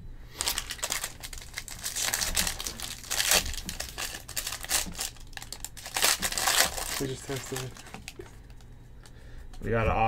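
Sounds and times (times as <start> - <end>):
foil wrapper crinkling and tearing: 0.4 - 8.7.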